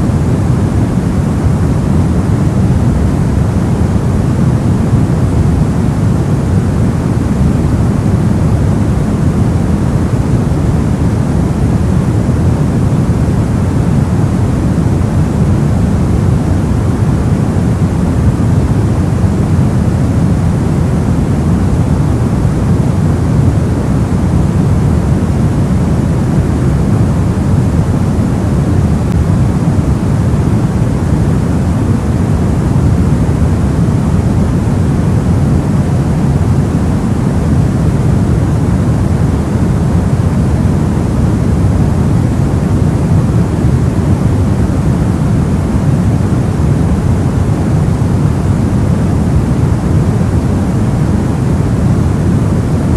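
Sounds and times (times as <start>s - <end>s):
soft white noise hiss: 0.0s - 52.9s.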